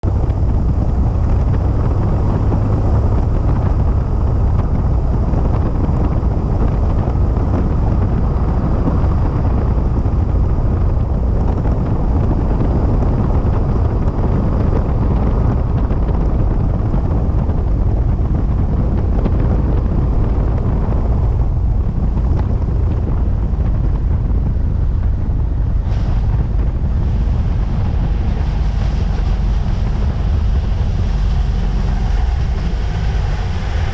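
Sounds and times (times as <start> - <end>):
airplane engine and propeller drone: 0.0 - 33.9
wind rushing: 0.0 - 33.9.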